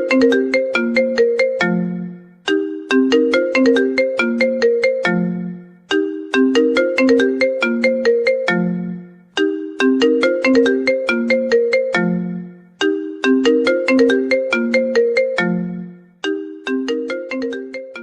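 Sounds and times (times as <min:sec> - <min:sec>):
phone ringtone melody: 0:00.0 - 0:18.0.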